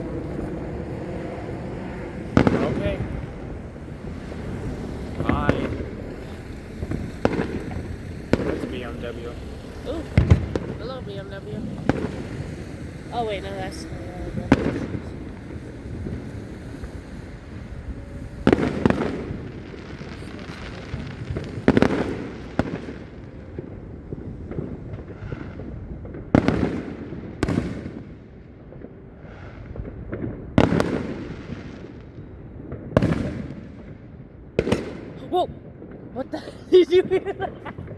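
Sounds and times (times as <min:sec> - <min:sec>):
faint firework pops: 0:00.0 - 0:36.2
fireworks bangs with rumbling echo: 0:00.0 - 0:37.9.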